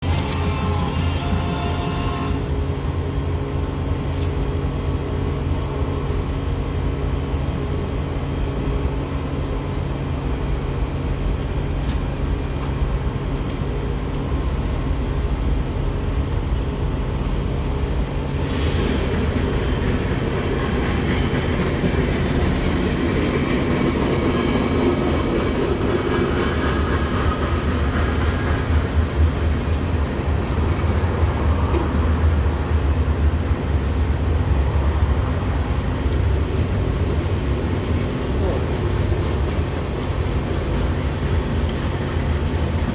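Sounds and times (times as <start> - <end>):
locomotive engine rumbling: 0.0 - 42.9
train rushing noise: 0.0 - 42.9.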